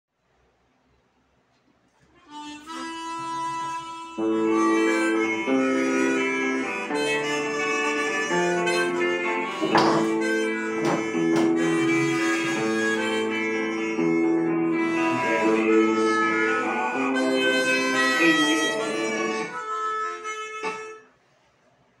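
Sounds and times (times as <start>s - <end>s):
harmonica chords: 2.2s - 21.1s.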